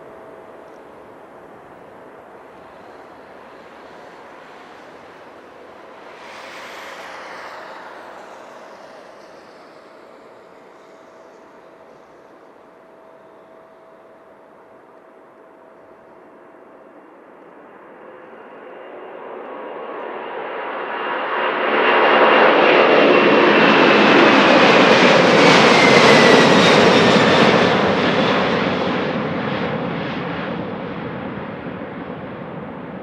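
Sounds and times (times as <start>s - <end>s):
high jet whine: 0.0s - 33.0s
jet engines roaring: 0.0s - 33.0s.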